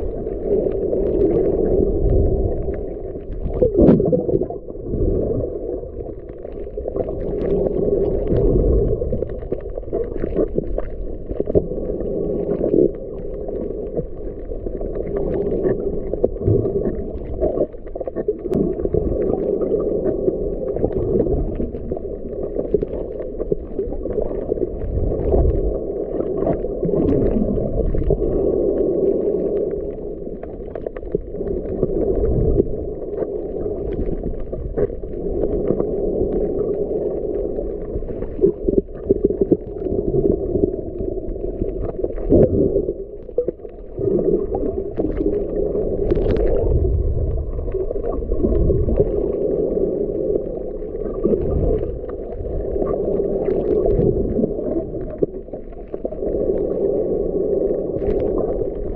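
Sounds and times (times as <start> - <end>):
faint underwater clicks: 0.0 - 58.9
underwater low rumble: 0.0 - 58.9.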